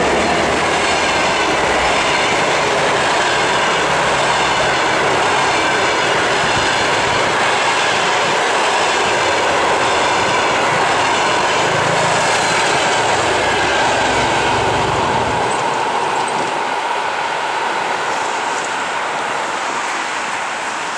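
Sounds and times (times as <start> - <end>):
passenger train rolling past: 0.0 - 20.9
train wheels on rails: 0.0 - 20.9.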